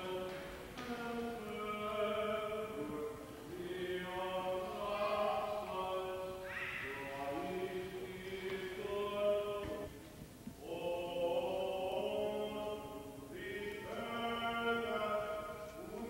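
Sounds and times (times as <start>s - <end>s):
liturgical chanting: 0.0s - 16.0s.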